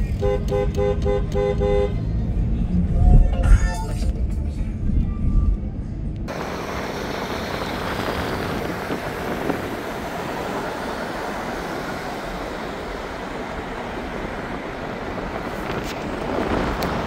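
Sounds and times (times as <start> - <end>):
dense street din: 0.0 - 17.0.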